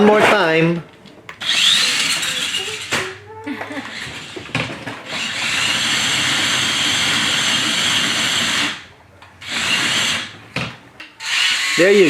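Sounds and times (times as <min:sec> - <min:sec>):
toy car motor whirring: 0:01.4 - 0:10.4, 0:11.2 - 0:12.0.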